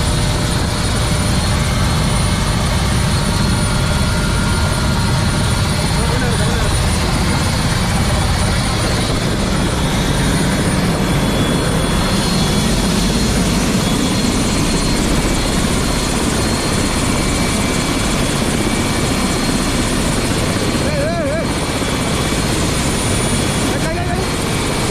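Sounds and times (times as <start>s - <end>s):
helicopter running: 0.0s - 24.9s.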